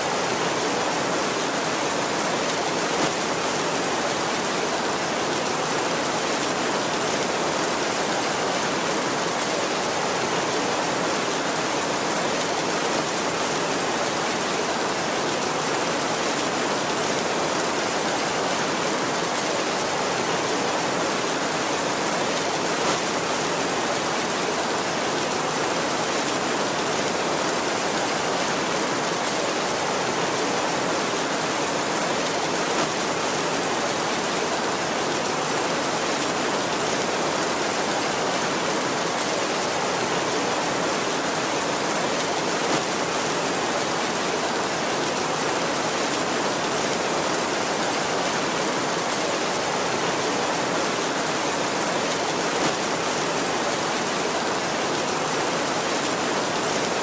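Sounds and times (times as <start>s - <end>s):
heavy rain on a tin roof: 0.0s - 57.0s.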